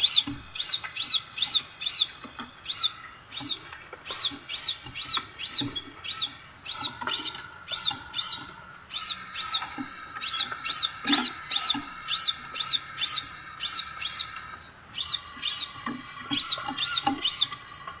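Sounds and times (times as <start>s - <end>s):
bird whistling calls: 0.0s - 17.8s.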